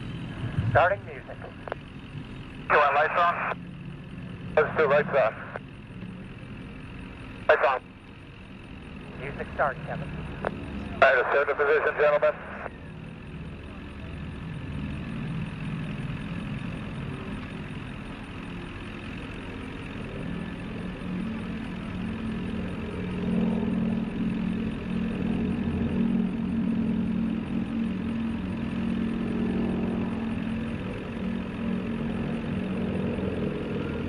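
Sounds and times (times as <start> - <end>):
propeller planes flying: 0.0 - 34.0.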